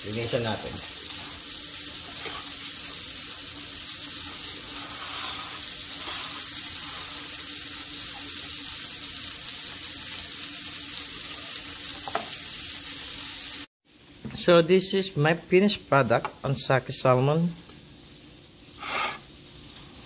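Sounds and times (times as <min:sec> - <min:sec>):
kitchen hiss: 0:00.0 - 0:20.0.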